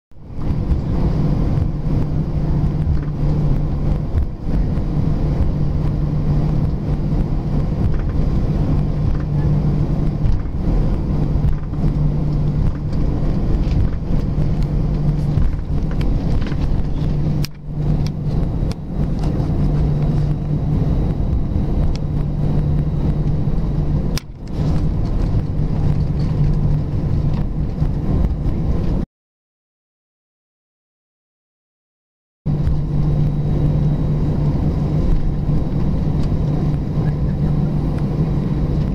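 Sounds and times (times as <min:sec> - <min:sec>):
airliner cabin engine rumble: 0:00.2 - 0:29.1, 0:32.5 - 0:38.9.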